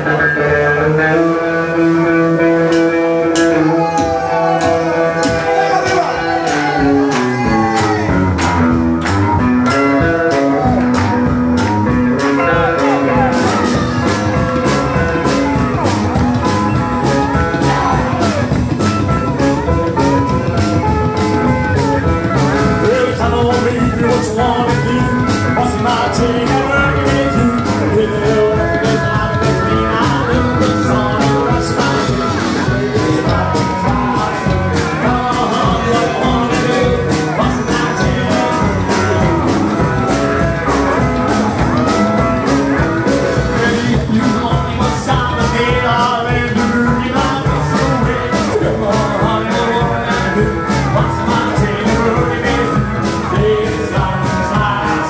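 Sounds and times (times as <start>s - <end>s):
man singing: 0.0s - 8.2s, 11.9s - 55.0s
drums: 0.0s - 55.0s
electric guitar: 0.0s - 55.0s
lap steel guitar: 0.0s - 55.0s
upright double bass: 0.0s - 55.0s.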